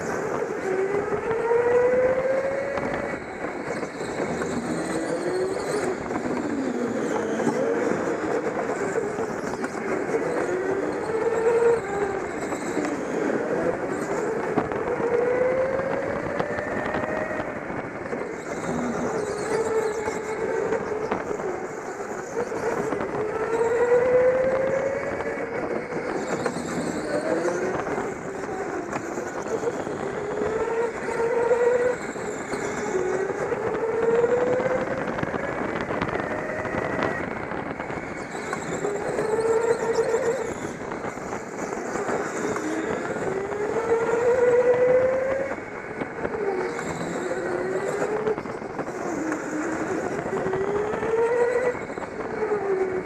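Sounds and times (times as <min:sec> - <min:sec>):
go-kart engine accelerating: 0:00.0 - 0:53.0
other karts running: 0:00.0 - 0:53.0.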